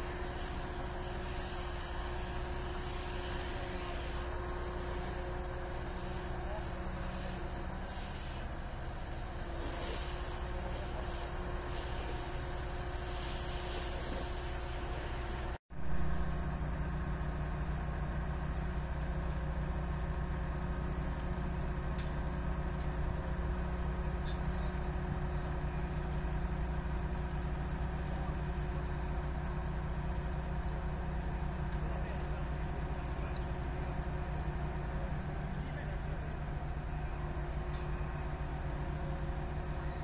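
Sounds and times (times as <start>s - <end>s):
tracked machine engine idling: 0.0s - 40.0s.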